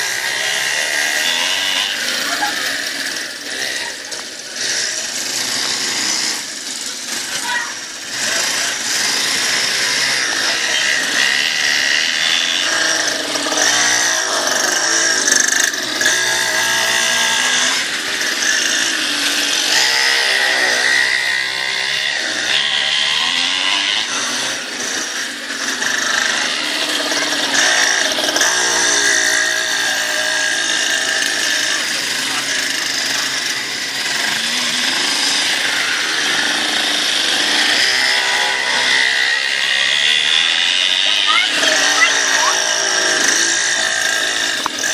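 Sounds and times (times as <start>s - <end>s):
small dirt bike engine revving: 0.0s - 44.9s.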